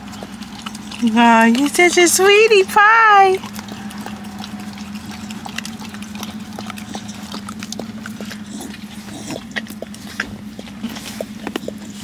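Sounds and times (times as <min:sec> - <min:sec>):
dog licking plastic cup: 0:00.0 - 0:12.0
steady low hum: 0:00.0 - 0:12.0.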